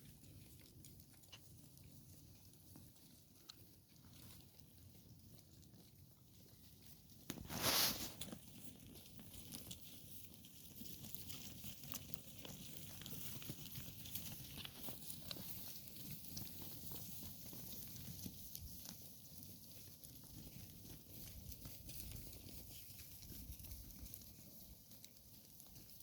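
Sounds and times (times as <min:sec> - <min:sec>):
animals cropping grass: 0:00.0 - 0:26.0
hooves shifting: 0:00.0 - 0:26.0.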